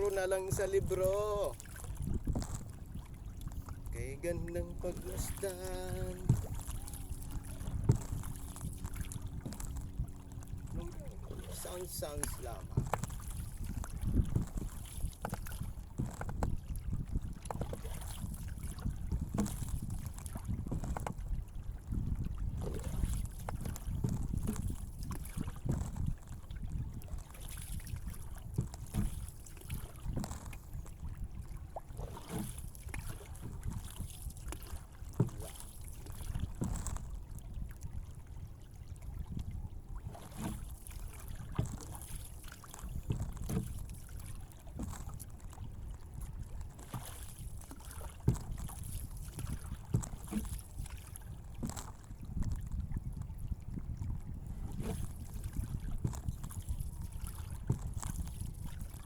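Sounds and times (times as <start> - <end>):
water sloshing and lapping: 0.0 - 59.0
wind rumble on microphone: 0.0 - 59.0
small knocks and splashes: 4.8 - 21.2, 22.6 - 37.9, 39.2 - 52.8, 54.7 - 59.0.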